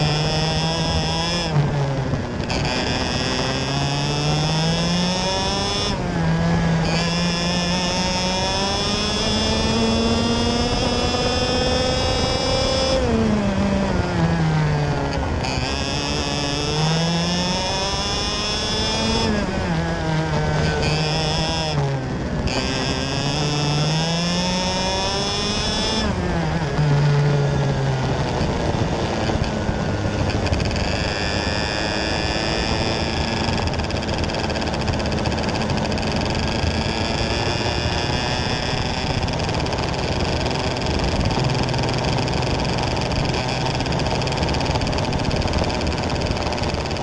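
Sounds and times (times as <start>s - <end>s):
two-stroke kart engine racing: 0.0s - 47.0s.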